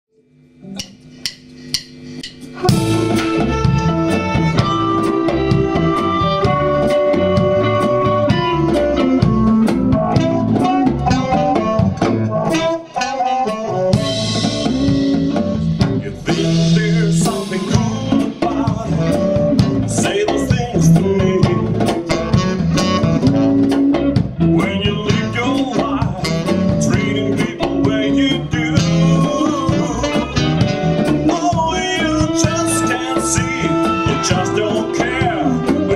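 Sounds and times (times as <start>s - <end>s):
blues band playing: 0.6s - 35.9s
harmonica lead line: 1.6s - 35.9s.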